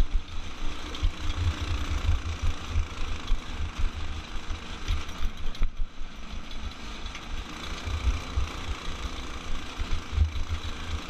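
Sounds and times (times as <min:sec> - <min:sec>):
go-kart engine rumbling: 0:00.0 - 0:11.0.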